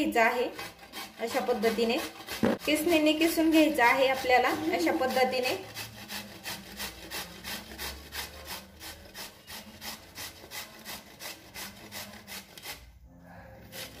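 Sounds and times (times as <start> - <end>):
gourd scraping on metal grater: 0.0 - 12.9, 13.6 - 14.0.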